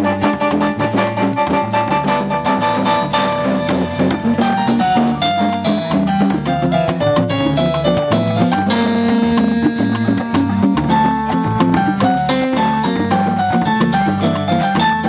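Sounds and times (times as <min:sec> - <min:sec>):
drums and percussion: 0:00.0 - 0:15.0
electric bass: 0:00.0 - 0:15.0
electric guitar: 0:00.0 - 0:15.0
keyboard: 0:00.0 - 0:15.0.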